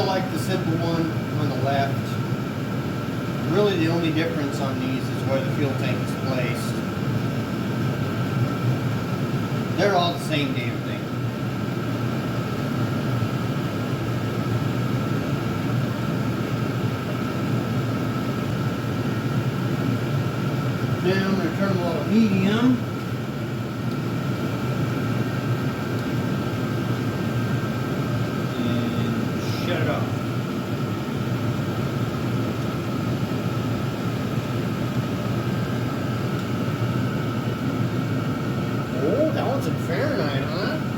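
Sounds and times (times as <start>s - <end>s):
air heaters whooshing: 0.0s - 40.9s
thin steady whine: 0.0s - 40.9s.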